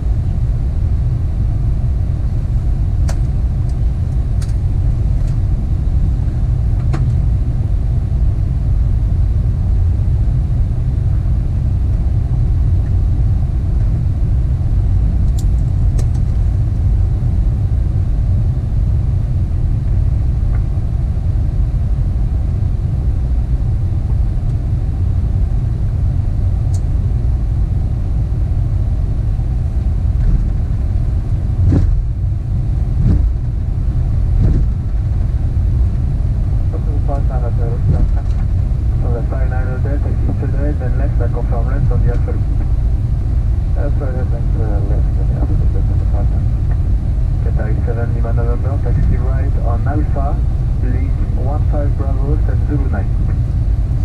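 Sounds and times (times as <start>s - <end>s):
airliner cockpit rumble: 0.0s - 54.0s.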